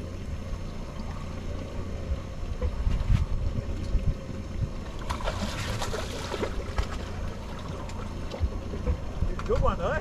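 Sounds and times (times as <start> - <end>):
wind buffeting microphone: 1.4 - 10.0.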